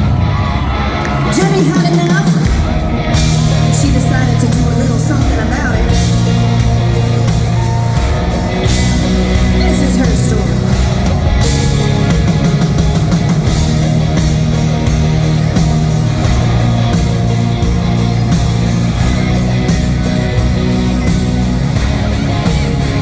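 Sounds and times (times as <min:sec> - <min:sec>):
live country-rock band: 0:00.0 - 0:23.0.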